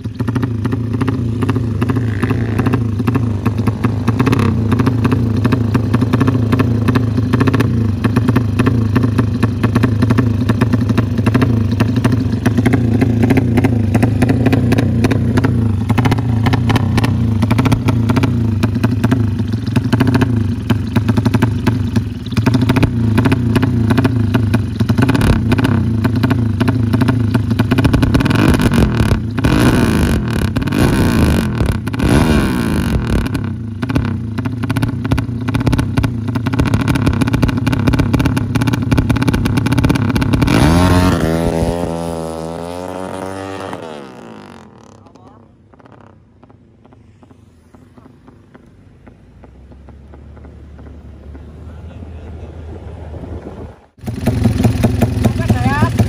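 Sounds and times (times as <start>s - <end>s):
motorcycle engine idling: 0.0s - 52.8s, 53.9s - 56.0s.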